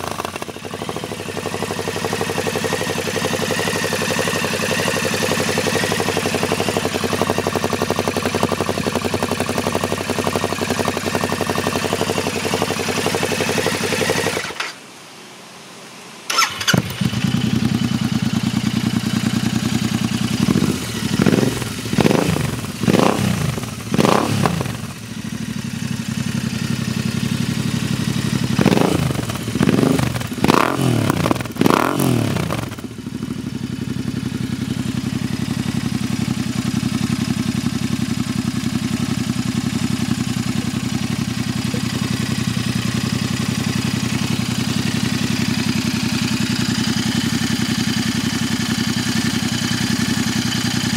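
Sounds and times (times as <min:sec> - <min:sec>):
motorcycle engine idling and revving: 0:00.0 - 0:14.8, 0:16.3 - 0:50.9.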